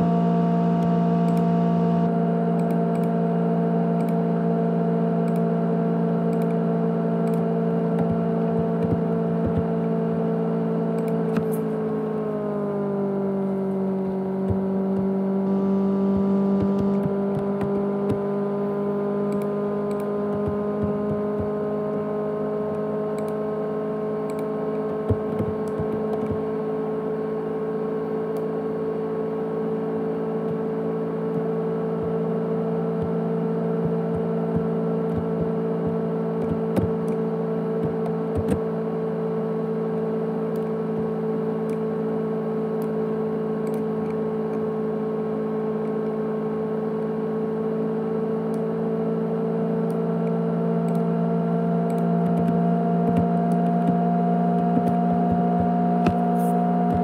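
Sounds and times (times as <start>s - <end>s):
external hard drive humming: 0.0s - 57.0s.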